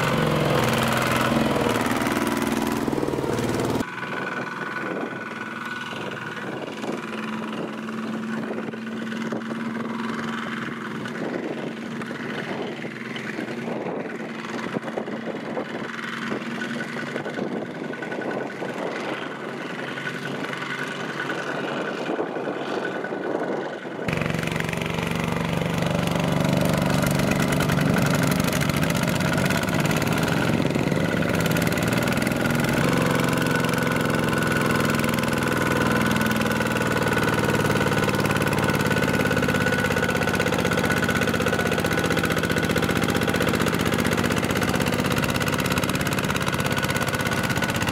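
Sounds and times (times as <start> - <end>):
diesel tractor engine under load: 0.0 - 47.9.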